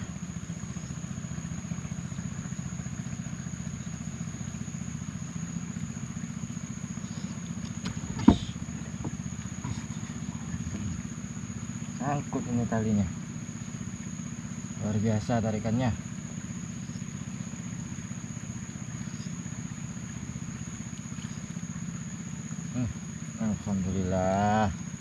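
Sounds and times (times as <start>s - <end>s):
motor droning: 0.0s - 25.0s.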